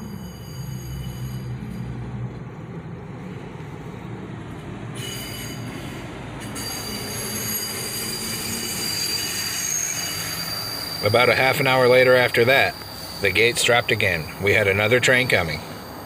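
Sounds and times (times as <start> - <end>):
high-pitched rail wheel squeal: 0.0 - 2.4, 4.5 - 16.0
diesel engine running low: 0.0 - 8.6, 9.2 - 16.0.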